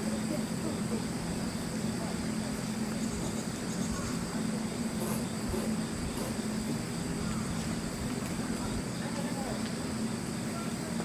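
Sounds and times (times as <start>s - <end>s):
insects trilling: 0.0s - 11.0s
low even hum: 0.0s - 11.0s.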